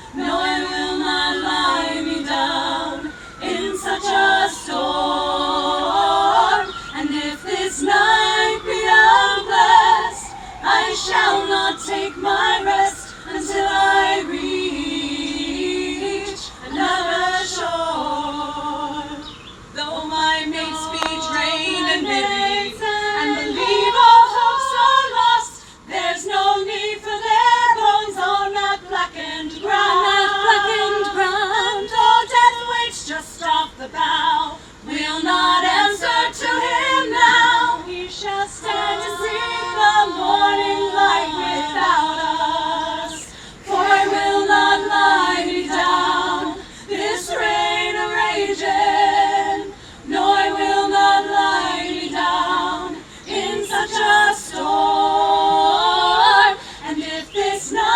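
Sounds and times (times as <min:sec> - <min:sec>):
a cappella group singing: 0:00.0 - 0:57.9.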